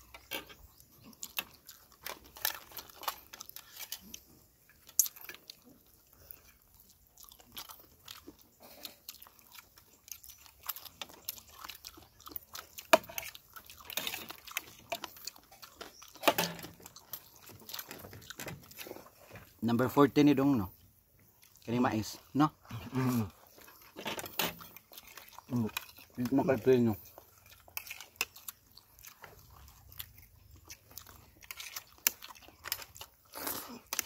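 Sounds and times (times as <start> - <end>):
people chewing food: 0.0 - 34.0.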